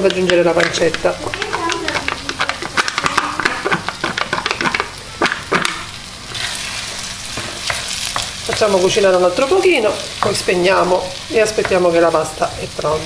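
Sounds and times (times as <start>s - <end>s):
meat sizzling in a pan: 0.9s - 13.0s.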